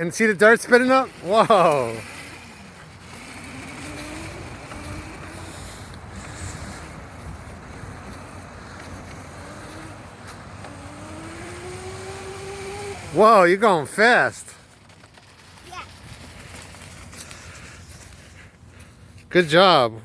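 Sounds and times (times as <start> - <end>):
electric dirt bike motor whining: 0.0 - 18.7
tyres on dirt: 0.0 - 19.8.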